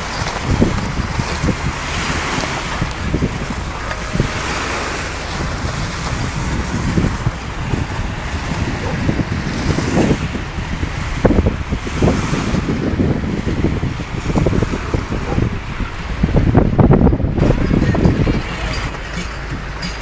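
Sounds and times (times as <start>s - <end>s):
sea surf: 0.0s - 20.0s
wind buffeting microphone: 0.0s - 20.0s.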